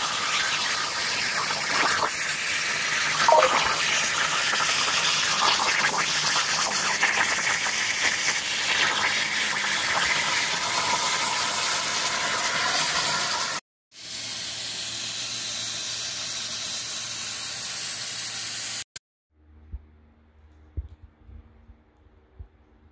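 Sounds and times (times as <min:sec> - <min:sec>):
plasma cutter hissing: 0:00.0 - 0:18.9.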